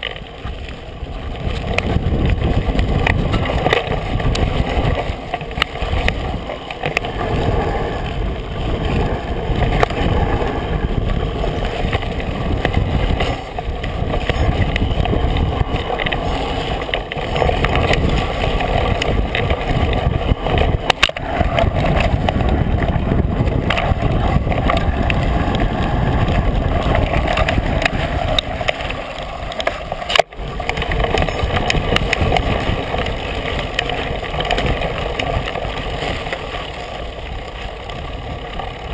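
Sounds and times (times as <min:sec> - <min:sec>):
bike rattling and knocking: 0:00.0 - 0:38.9
tyre and wind rumble: 0:00.0 - 0:38.9.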